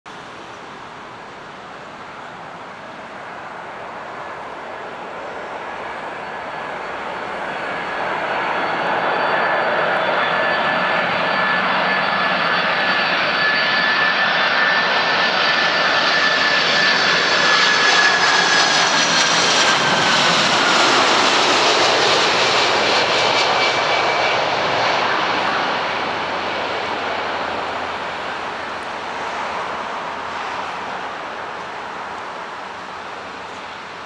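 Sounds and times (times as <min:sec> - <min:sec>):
high jet engine whine: 0:00.1 - 0:34.0
jet airliner engines roaring: 0:00.1 - 0:34.0.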